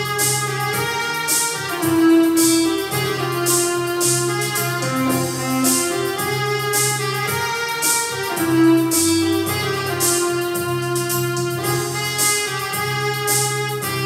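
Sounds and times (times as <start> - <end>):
drum accompaniment: 0.0 - 14.0
electronic keyboard melody: 0.0 - 14.0.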